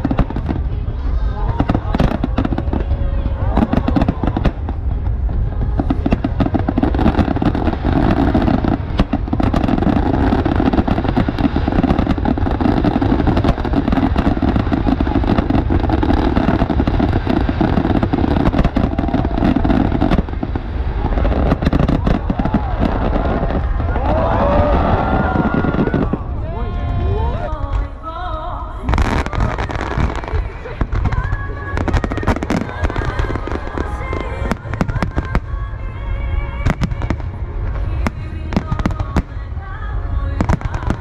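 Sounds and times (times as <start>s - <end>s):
fireworks bangs and crackles: 0.0s - 27.9s, 28.8s - 41.0s.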